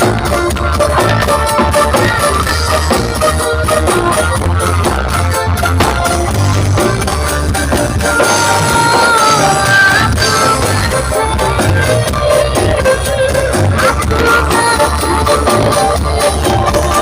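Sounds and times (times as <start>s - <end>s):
loud music with heavy bass: 0.0s - 17.0s.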